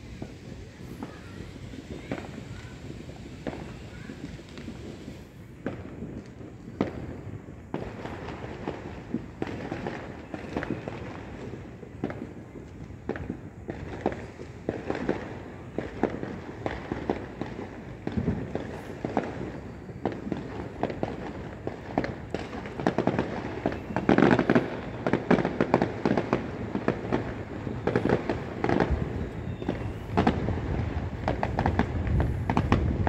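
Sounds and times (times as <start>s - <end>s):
distant fireworks bangs and crackles: 0.0s - 33.0s.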